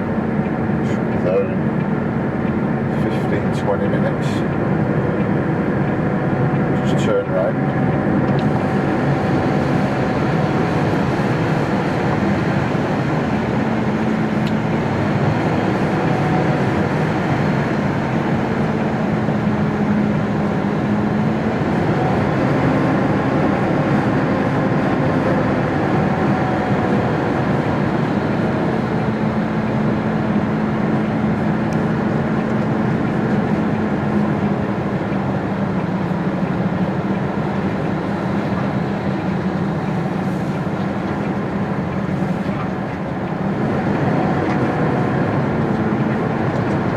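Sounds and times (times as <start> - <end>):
lorry diesel engine drone: 0.0 - 46.9.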